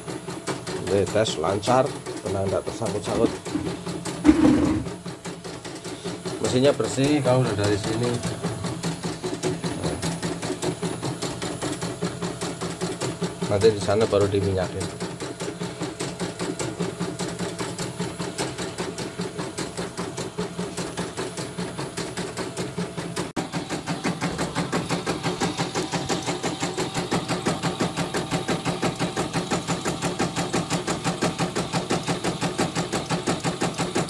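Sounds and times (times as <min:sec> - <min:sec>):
embroidery machine stitching: 0:00.0 - 0:34.0.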